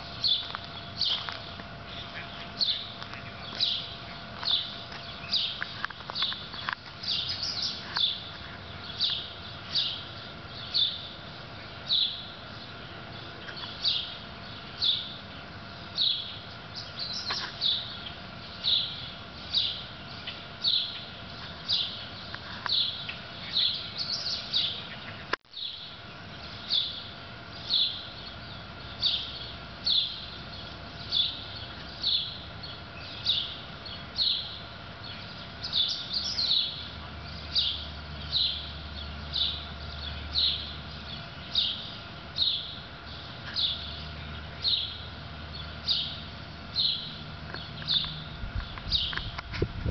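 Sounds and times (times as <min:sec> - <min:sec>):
bird chirping: 0:00.0 - 0:49.5.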